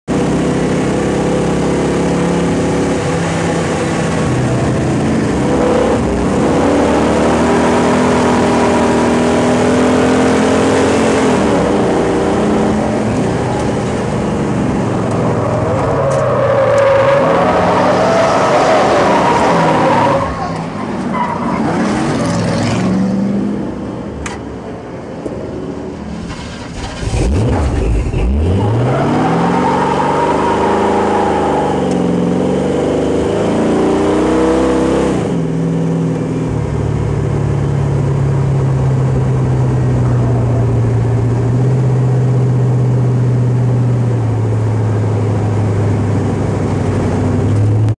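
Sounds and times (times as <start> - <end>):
car engine revving: 0.1 - 24.1, 26.0 - 48.0.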